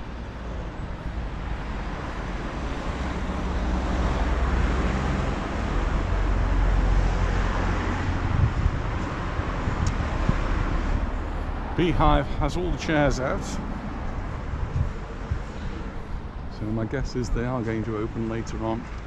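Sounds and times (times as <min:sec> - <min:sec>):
vehicle passing: 0:01.0 - 0:18.8.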